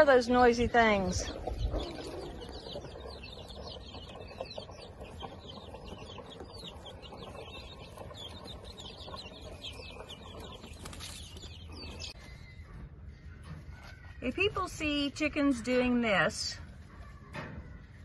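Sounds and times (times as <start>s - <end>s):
chicks peeping: 0.0s - 16.1s, 16.7s - 18.0s.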